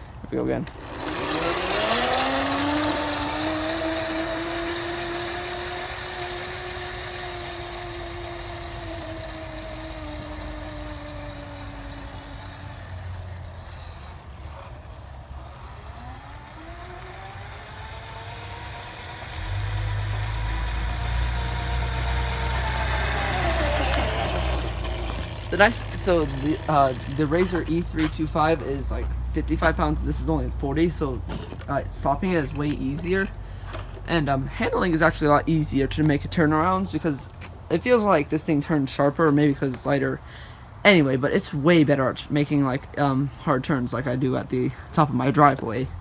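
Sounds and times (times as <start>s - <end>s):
electric scooter motor whining: 0.0s - 37.4s.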